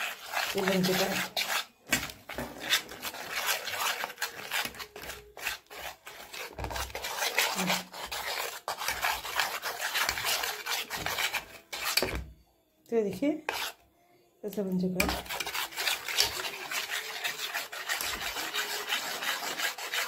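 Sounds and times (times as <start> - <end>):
spoon scraping steel bowl: 0.0 - 12.3, 13.4 - 13.8, 14.8 - 20.0.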